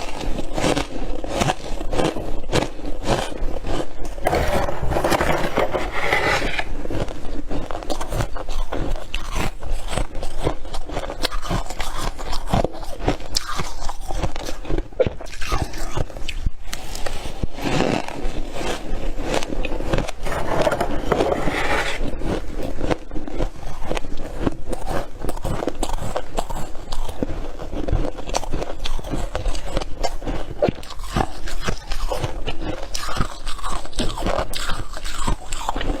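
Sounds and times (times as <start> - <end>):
frost being chewed: 0.0 - 4.3, 6.6 - 21.0, 22.0 - 36.0.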